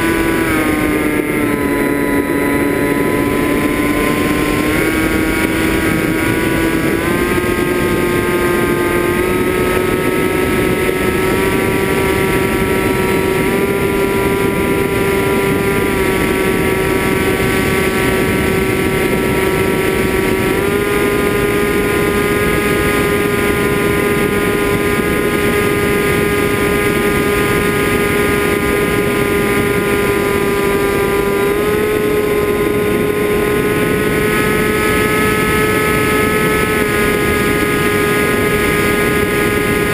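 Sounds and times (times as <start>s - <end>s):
drone motors whining: 0.0s - 39.9s
rush of prop wash and wind: 0.0s - 39.9s.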